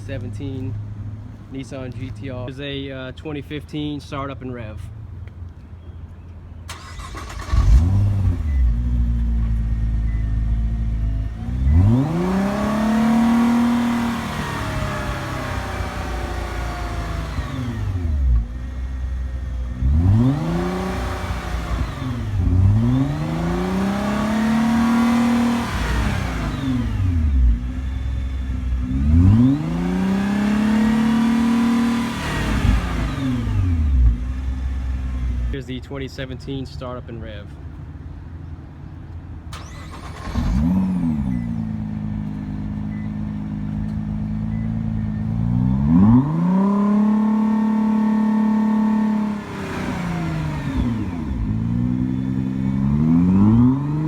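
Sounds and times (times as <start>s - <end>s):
car engine starting and revving: 6.7s - 35.6s, 39.4s - 54.0s.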